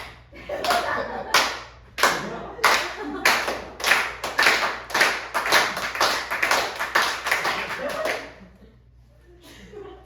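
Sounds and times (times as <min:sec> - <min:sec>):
hand claps: 0:00.0 - 0:08.4.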